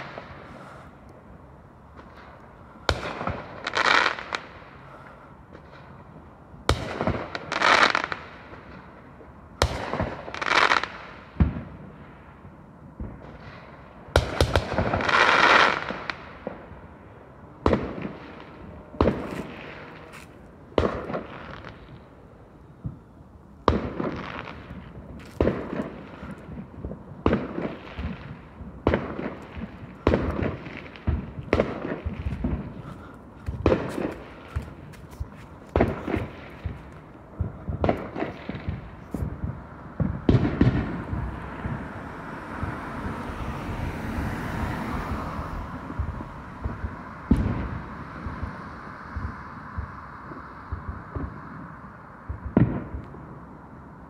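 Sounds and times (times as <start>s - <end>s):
fireworks bangs: 0.0s - 1.0s, 1.8s - 22.2s, 22.8s - 53.6s.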